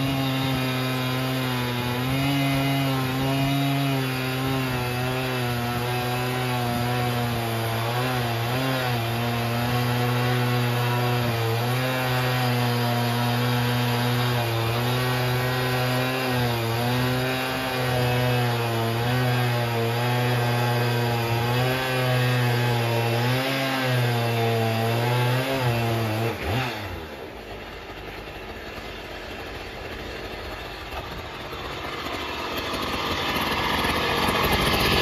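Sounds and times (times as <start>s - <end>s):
chainsaw cutting log under load: 0.0s - 35.0s.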